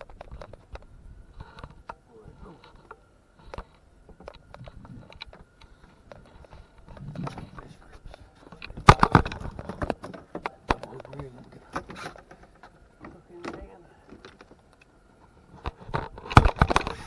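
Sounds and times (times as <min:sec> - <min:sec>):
scattered clicks and knocks: 0:02.6 - 0:14.9, 0:15.6 - 0:17.0.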